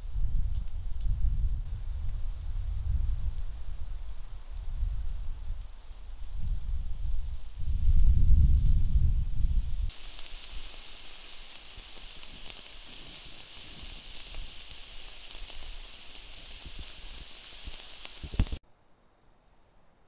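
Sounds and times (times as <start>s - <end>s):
meat sizzling on a grill: 0.0s - 18.6s.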